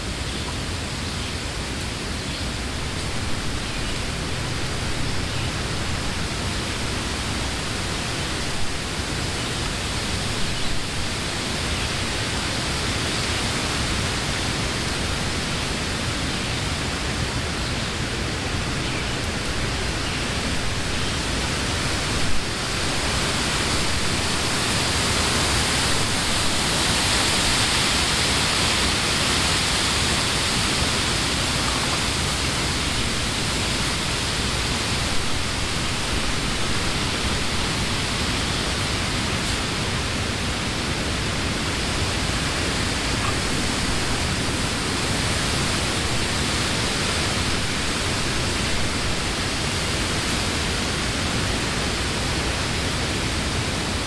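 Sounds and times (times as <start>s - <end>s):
wind rustling leafy trees: 0.0s - 54.0s.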